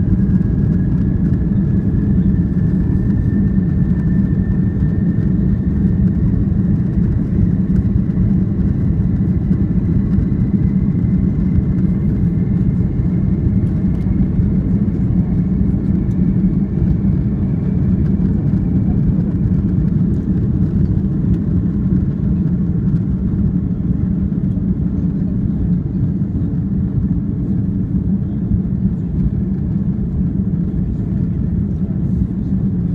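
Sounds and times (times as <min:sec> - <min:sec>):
jet engines at take-off power: 0:00.0 - 0:32.9.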